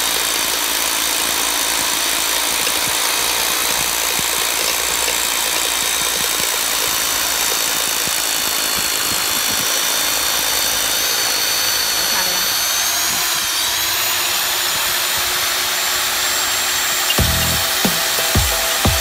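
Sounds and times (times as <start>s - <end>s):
hammer drill drilling through wall: 0.0s - 19.0s.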